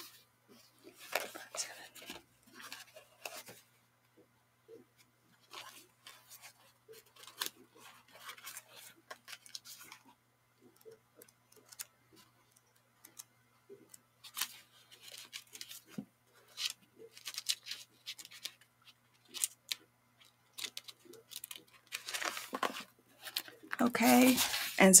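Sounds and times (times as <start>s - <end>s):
thin pages turning: 0.0s - 3.7s, 5.4s - 24.9s
faint steady hum: 0.0s - 25.0s.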